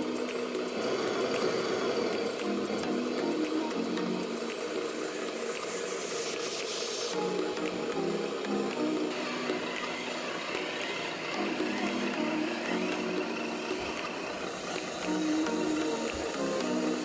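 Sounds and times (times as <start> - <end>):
slow melodic background music: 0.0 - 17.0.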